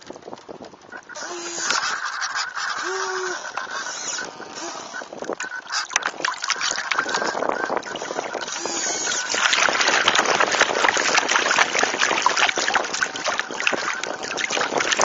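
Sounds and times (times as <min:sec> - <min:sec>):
water rushing against hulls: 0:00.0 - 0:15.0.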